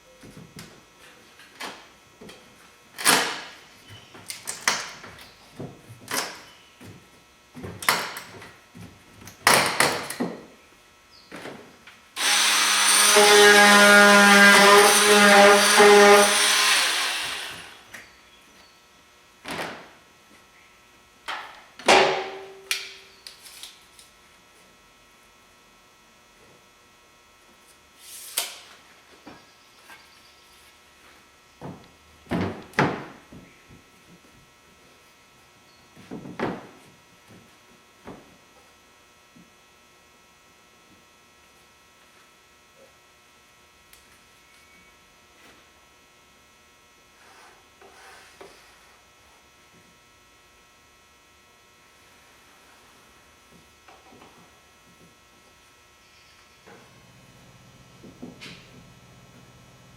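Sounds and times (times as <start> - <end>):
electrical hum: 10.1 - 59.9.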